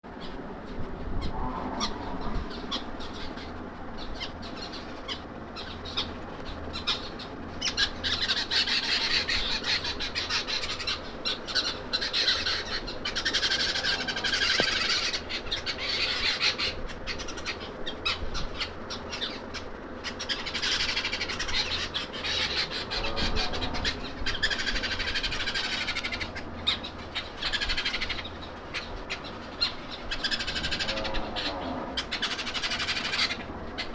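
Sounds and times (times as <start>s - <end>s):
low steady hum: 0.0s - 33.9s
birds chirping and calling: 0.1s - 33.9s.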